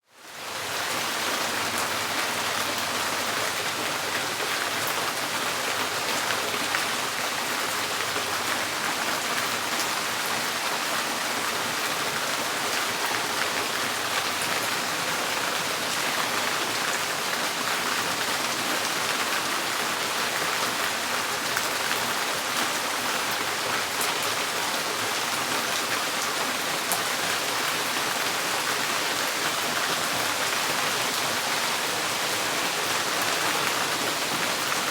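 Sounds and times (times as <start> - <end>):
rain drumming on a tin roof: 0.2 - 34.9.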